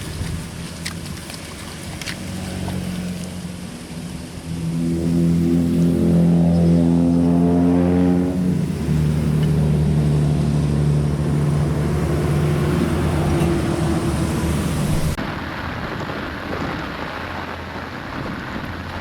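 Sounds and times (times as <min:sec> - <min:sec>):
engine running: 0:00.0 - 0:15.6
rushing noise: 0:02.6 - 0:19.0.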